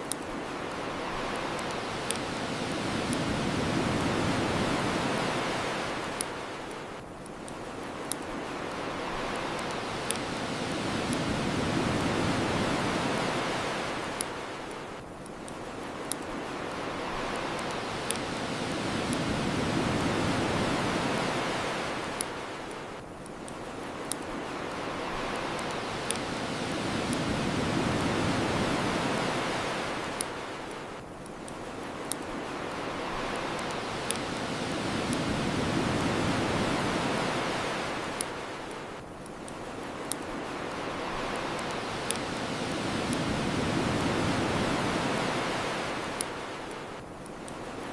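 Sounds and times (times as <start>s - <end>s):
ocean waves washing ashore: 0.0s - 47.9s.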